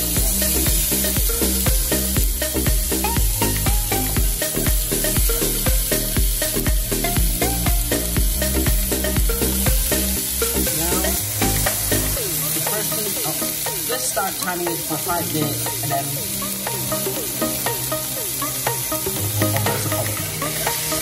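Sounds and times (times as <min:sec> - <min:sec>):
pork chops sizzling on a grill: 0:00.0 - 0:21.0.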